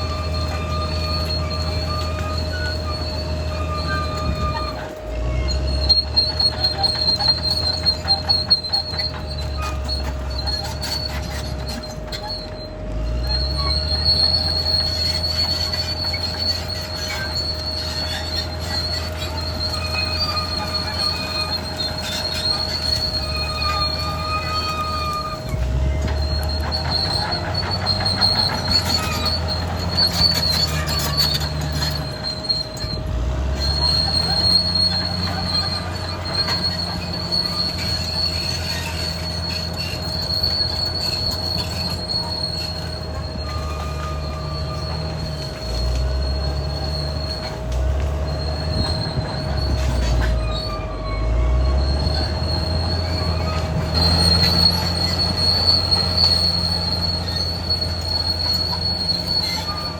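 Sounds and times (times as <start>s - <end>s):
bulldozer diesel engine: 0.0s - 59.9s
high-pitched squeal of steel tracks: 0.0s - 59.9s.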